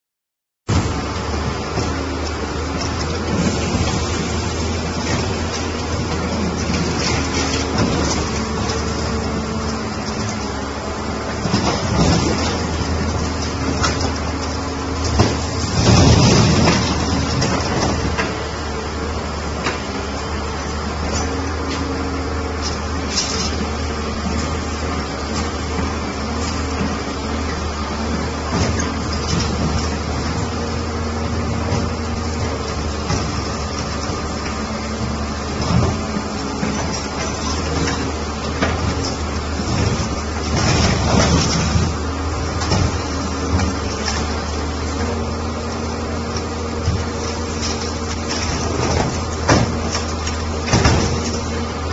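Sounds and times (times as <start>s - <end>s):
metal clanking and crunching: 0.7s - 19.9s, 20.6s - 51.9s
excavator diesel engine running: 0.7s - 51.9s.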